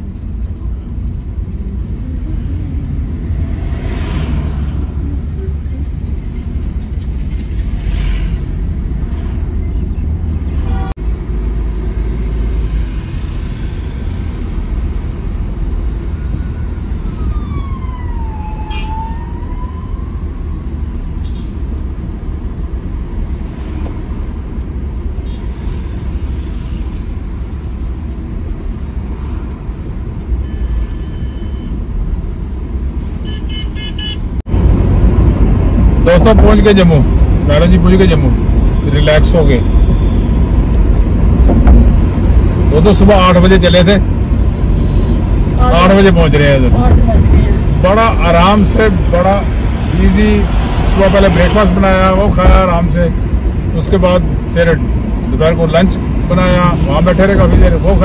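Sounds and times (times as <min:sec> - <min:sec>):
van engine and road noise: 0:00.0 - 0:58.0.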